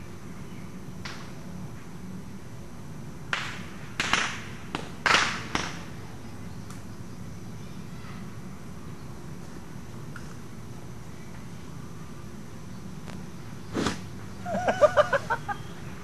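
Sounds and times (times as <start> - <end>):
low outdoor background: 0.0 - 16.0.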